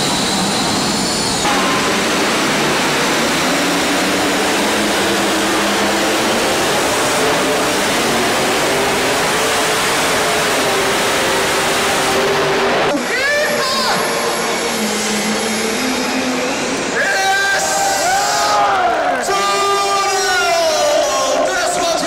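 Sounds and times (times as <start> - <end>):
tractor engine at full throttle: 0.0 - 18.2.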